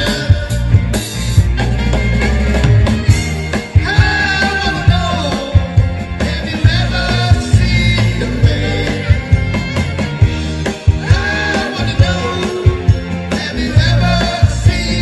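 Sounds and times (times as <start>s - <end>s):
bass: 0.0s - 15.0s
steady drum beat: 0.0s - 15.0s.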